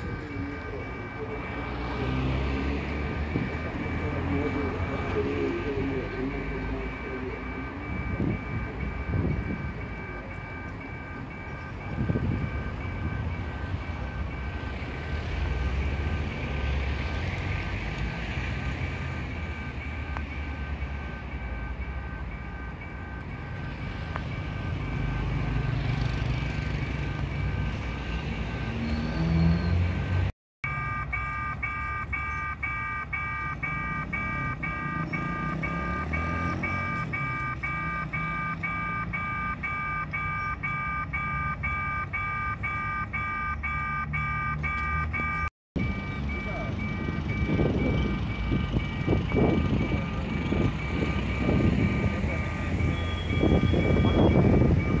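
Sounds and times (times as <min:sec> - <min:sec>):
level crossing alarm beeping: 0:00.0 - 0:17.5, 0:18.6 - 0:55.0
second crossing alarm beeping: 0:00.0 - 0:55.0.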